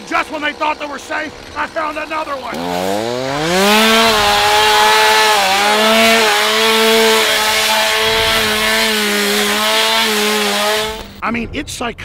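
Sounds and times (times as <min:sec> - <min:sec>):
chainsaw cutting: 0:00.0 - 0:11.2.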